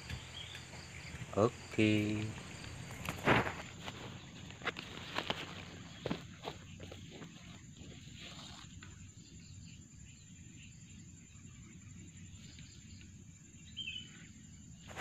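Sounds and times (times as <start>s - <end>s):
bird chirp: 0.0s - 15.0s
high insect drone: 0.0s - 15.0s.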